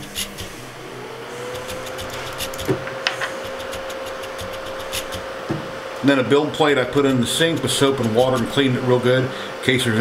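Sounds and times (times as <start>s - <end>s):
stepper motors whining: 0.0s - 9.9s
mechanical hum: 0.0s - 10.0s.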